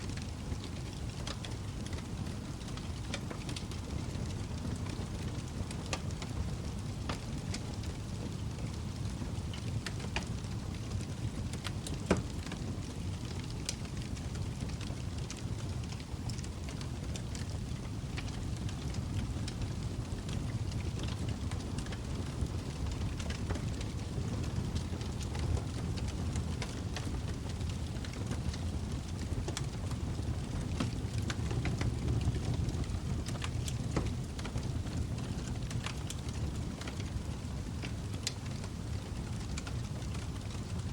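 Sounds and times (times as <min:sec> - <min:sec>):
log fire crackling: 0:00.0 - 0:40.9.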